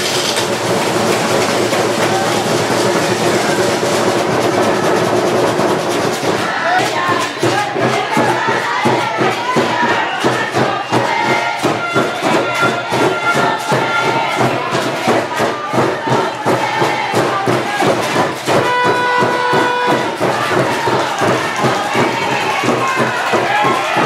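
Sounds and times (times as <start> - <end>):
crowd noise: 0.0 - 24.0
music with fast drum beat: 0.0 - 24.0.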